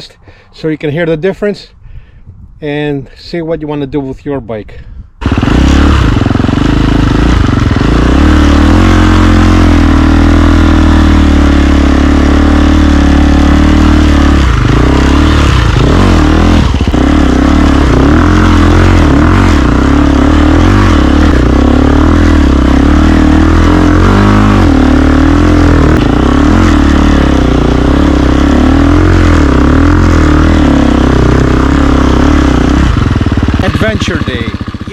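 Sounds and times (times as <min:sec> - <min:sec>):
motorcycle engine under load: 0:05.1 - 0:34.9.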